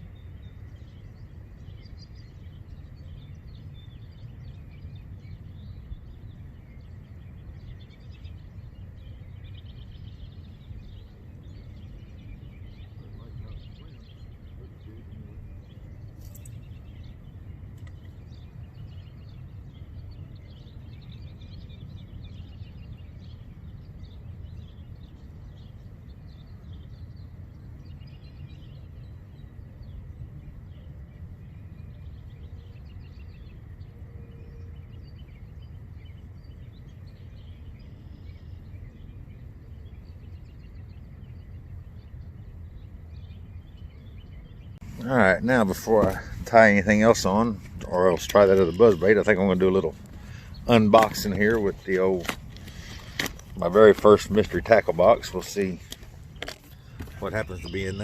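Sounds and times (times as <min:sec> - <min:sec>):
small birds chirping: 0:00.0 - 0:58.0
steady low rumble: 0:00.0 - 0:58.0.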